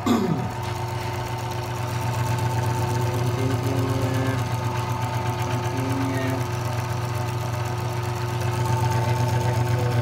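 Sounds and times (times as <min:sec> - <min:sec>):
drill press motor humming: 0:00.0 - 0:10.0.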